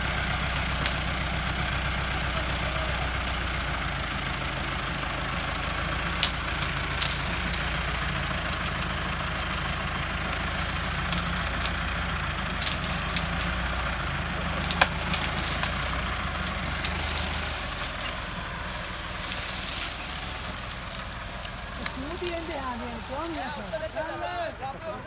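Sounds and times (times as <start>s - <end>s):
wood and roots cracking: 0.0s - 24.8s
tractor diesel engine under load: 0.0s - 25.0s.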